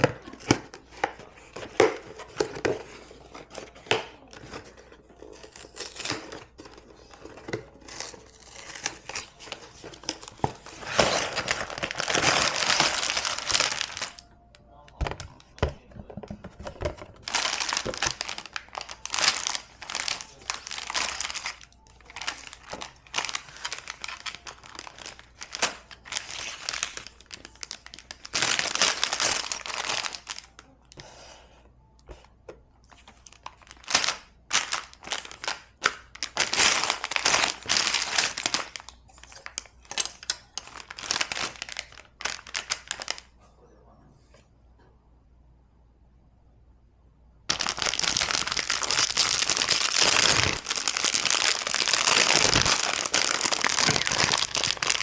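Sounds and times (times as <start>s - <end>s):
plastic packaging crinkling: 0.0s - 30.6s, 32.9s - 43.4s, 47.5s - 55.0s.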